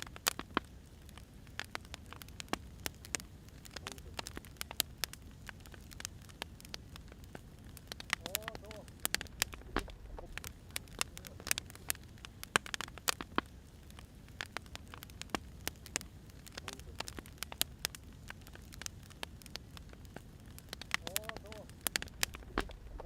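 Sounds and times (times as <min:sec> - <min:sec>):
firewood crackling and popping: 0:00.0 - 0:23.0
low fire rumble: 0:00.0 - 0:23.0.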